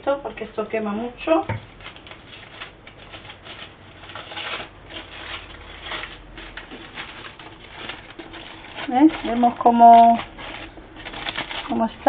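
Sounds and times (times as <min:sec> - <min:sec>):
aluminium foil crinkling: 0:01.2 - 0:12.0.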